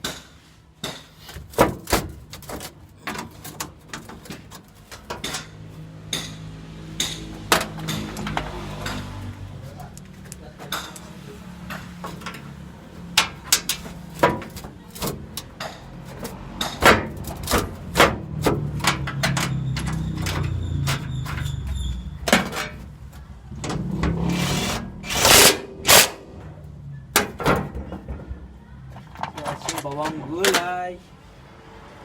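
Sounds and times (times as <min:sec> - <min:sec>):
metal tools knocking and clanking: 0:00.9 - 0:09.3, 0:10.5 - 0:30.8.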